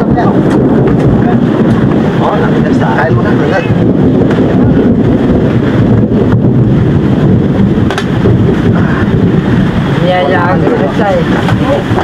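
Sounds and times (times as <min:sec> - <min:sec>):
heavy rain: 0:00.0 - 0:12.0
wind: 0:00.0 - 0:12.0.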